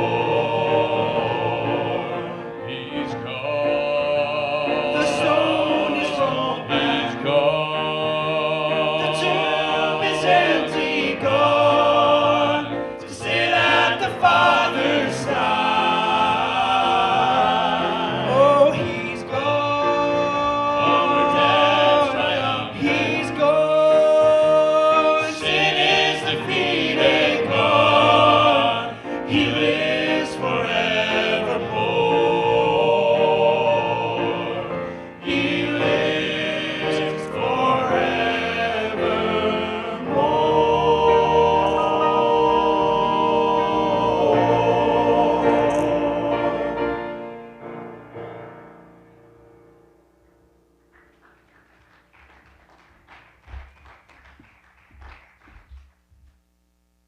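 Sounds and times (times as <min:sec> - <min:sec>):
vocal group singing gospel: 0:00.0 - 0:47.4
musical accompaniment: 0:00.0 - 0:55.2.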